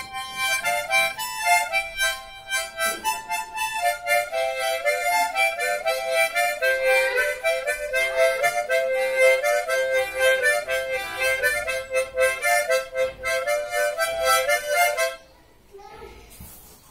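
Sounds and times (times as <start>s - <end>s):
harmonica playing slow melody: 0.0s - 15.3s.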